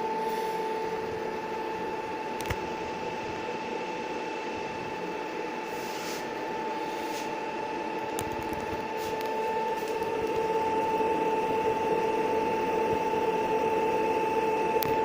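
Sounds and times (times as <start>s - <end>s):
fan motor whine: 0.0s - 15.0s.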